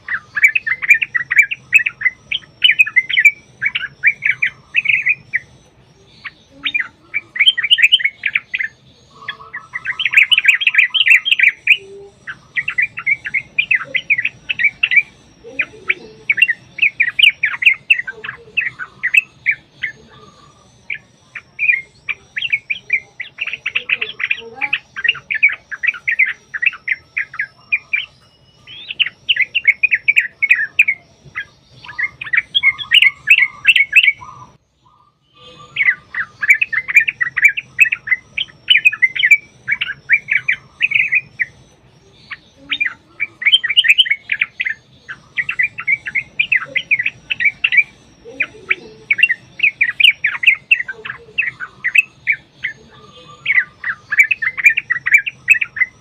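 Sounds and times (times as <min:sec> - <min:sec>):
bulbuls singing: 0:00.0 - 0:56.0.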